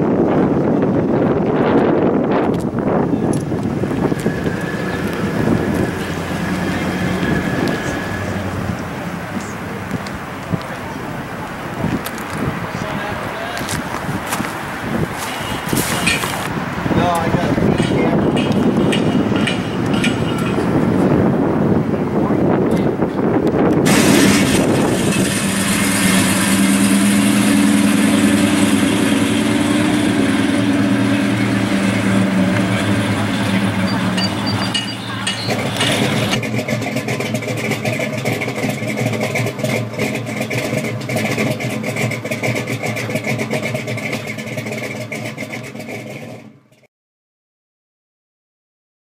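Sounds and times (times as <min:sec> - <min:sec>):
car engine idling: 0:00.0 - 0:46.8.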